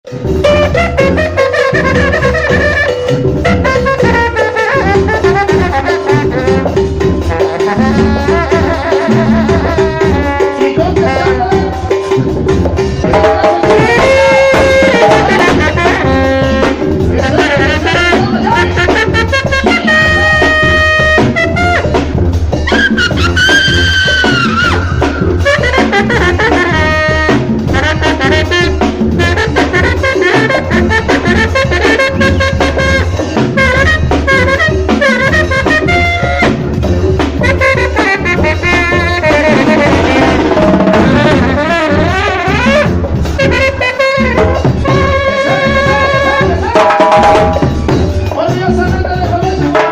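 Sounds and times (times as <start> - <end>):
brass band playing: 0.0 - 49.9
low bass line: 0.1 - 49.7
trombones: 0.1 - 49.9.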